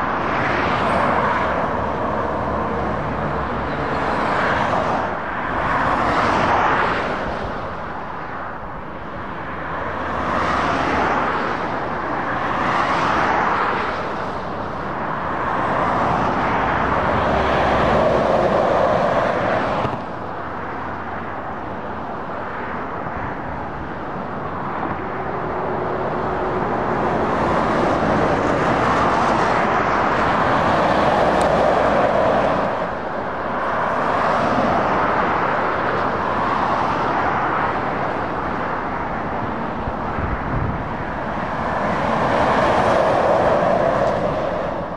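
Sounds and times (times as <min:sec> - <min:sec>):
motorway traffic passing: 0:00.0 - 0:44.9.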